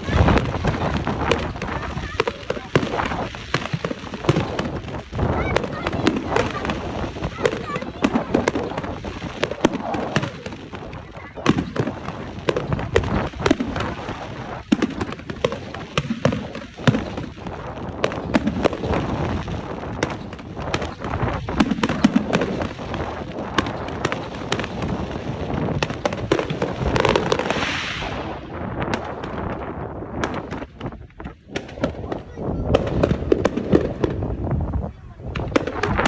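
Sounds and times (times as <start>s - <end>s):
fireworks bangs and crackles: 0.0s - 36.0s
hissing crackle: 0.0s - 36.0s.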